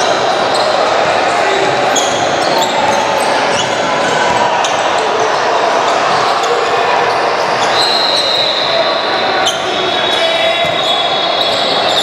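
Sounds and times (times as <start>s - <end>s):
sneaker squeaks: 0.0s - 5.0s, 6.1s - 12.0s
voices echoing in hall: 0.0s - 12.0s.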